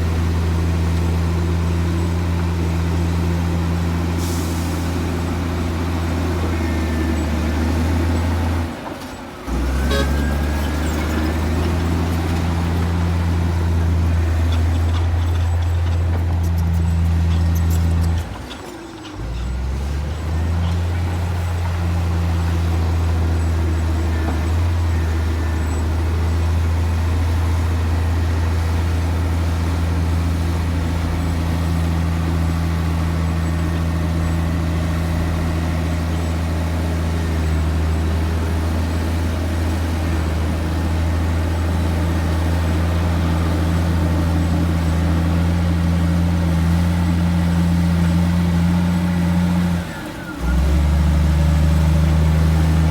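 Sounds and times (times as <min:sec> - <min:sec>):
heavy diesel engine droning: 0:00.0 - 0:52.9.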